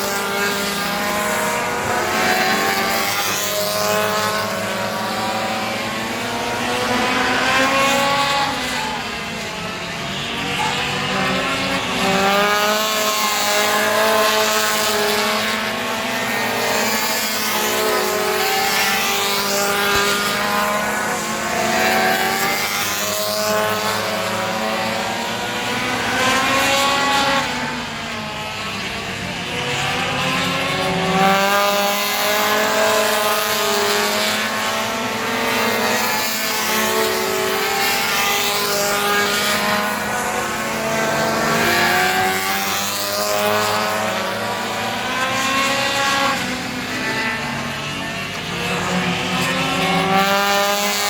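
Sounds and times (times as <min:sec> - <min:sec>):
race car engines accelerating: 0:00.0 - 0:51.0.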